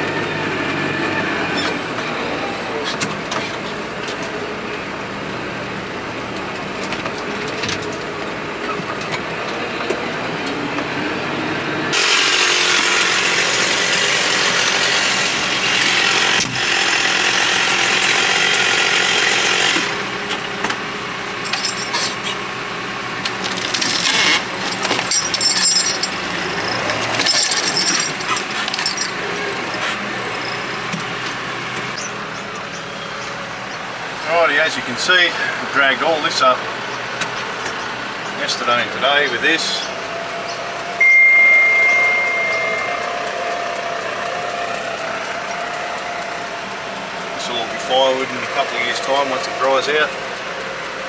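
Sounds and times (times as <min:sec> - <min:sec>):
tractor diesel engine rattling: 0:00.0 - 0:41.1, 0:41.7 - 0:51.0.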